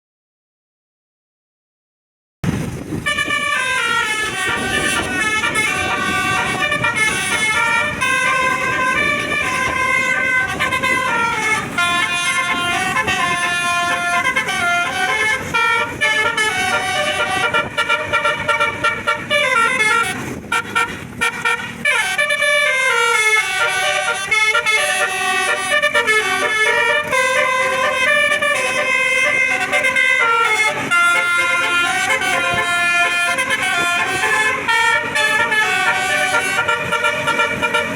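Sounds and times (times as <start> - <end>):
bus musical horn tunes: 2.9 - 37.9.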